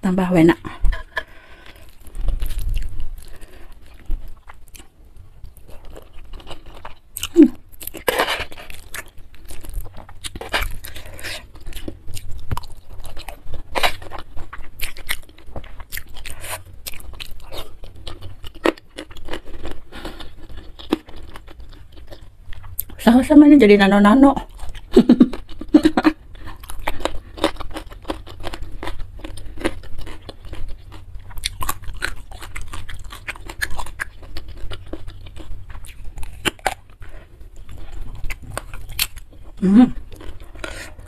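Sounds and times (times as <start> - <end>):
chewing and biting food: 0.7 - 23.0, 24.4 - 41.0.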